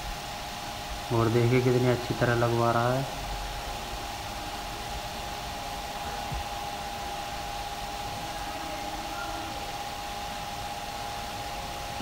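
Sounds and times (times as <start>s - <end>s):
steady hissing noise: 0.0s - 12.0s
thin hum-like tone: 0.0s - 12.0s.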